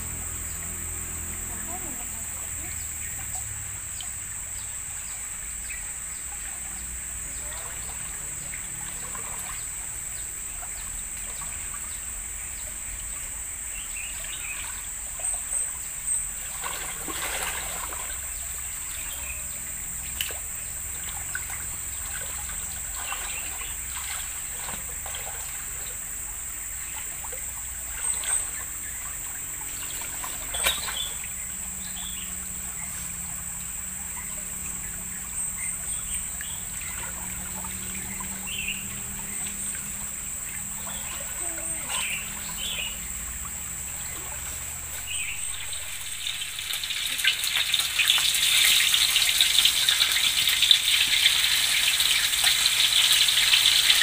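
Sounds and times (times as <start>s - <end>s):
high-pitched insect drone: 0.0s - 54.0s
river water trickling: 0.0s - 54.0s
small water splashes: 0.0s - 54.0s.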